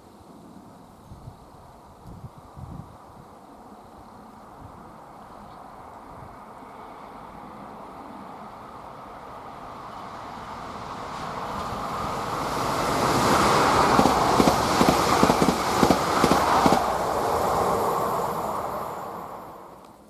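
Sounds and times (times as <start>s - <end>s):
train rolling noise: 1.4s - 20.0s.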